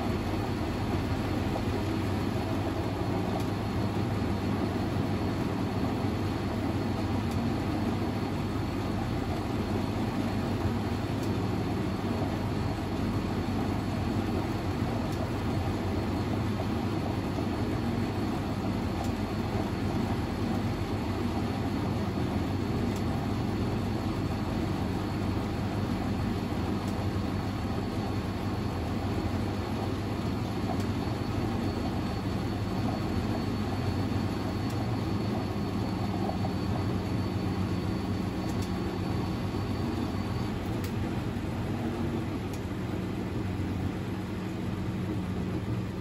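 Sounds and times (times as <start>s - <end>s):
thin high whine: 0.0s - 46.0s
washing machine rumble: 0.0s - 46.0s.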